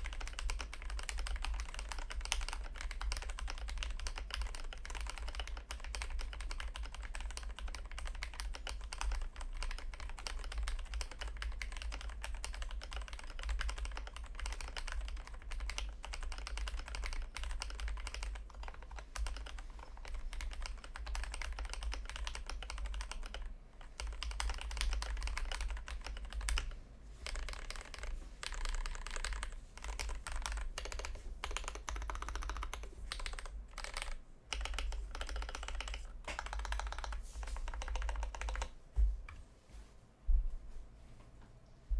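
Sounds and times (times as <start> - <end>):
fast keyboard typing clacks: 0.0 - 38.8.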